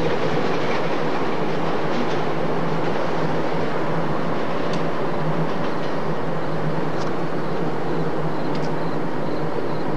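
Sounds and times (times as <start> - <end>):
train running on tracks: 0.0 - 9.9.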